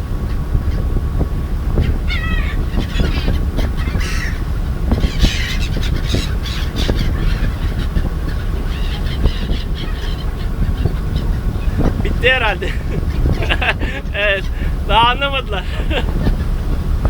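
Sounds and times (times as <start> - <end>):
boat noise: 0.0 - 17.0
seagulls squawking: 0.0 - 17.0
wind rumble: 0.0 - 17.0.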